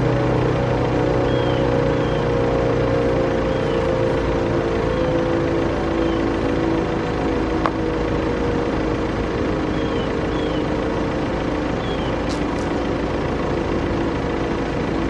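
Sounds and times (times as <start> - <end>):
low tonal hum: 0.0 - 15.0.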